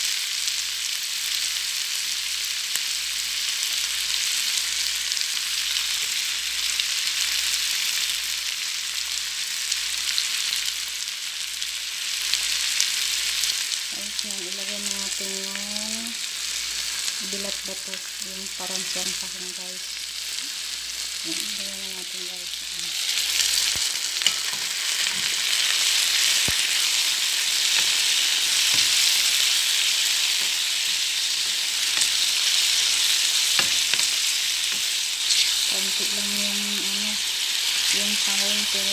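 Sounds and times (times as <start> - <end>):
vegetables sizzling in oil: 0.0 - 38.9.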